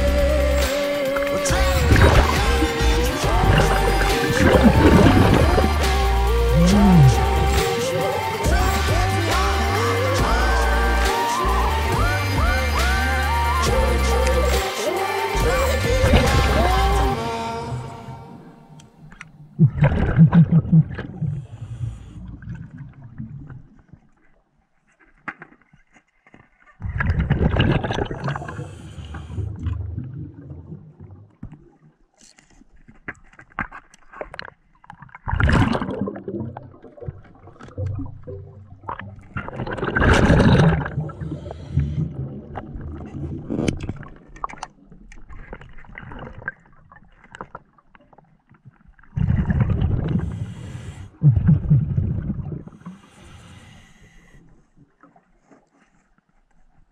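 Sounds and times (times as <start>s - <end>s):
exhaled bubbles bursting: 0.0s - 14.6s, 15.3s - 24.0s, 26.8s - 32.0s, 34.4s - 47.6s, 48.9s - 53.0s.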